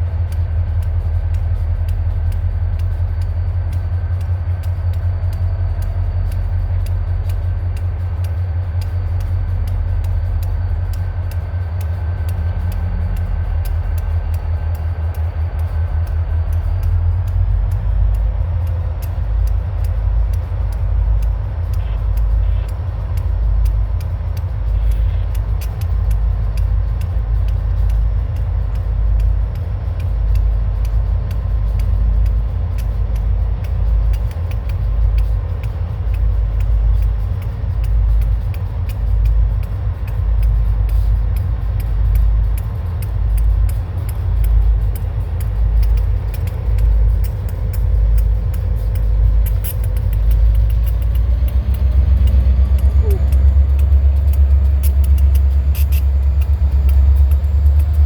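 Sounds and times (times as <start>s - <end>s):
freight train rumbling past: 0.0s - 58.0s
train wheels clicking: 0.0s - 58.0s.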